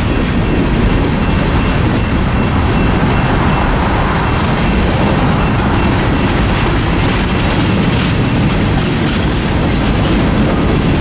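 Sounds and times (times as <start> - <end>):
freight train rolling past: 0.0 - 11.0
wheels clacking over rail joints: 0.0 - 11.0.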